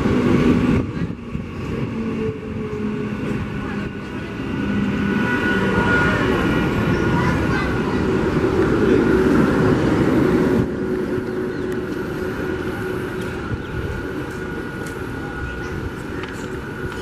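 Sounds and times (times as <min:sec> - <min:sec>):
standing train hum and whine: 0:00.0 - 0:17.0
train passing close: 0:00.0 - 0:17.0.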